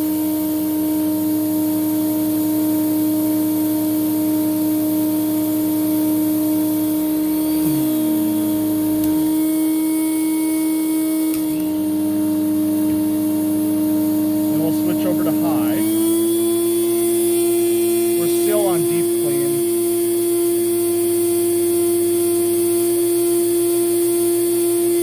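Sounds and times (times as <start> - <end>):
vacuum cleaner motor hum: 0.0 - 25.0
vibrating plastic buzz: 4.9 - 25.0.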